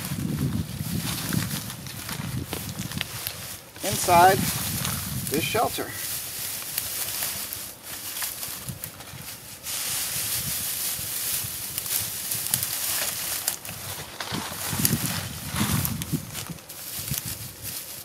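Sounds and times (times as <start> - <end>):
dry grass rustling and crackling: 0.0 - 18.0.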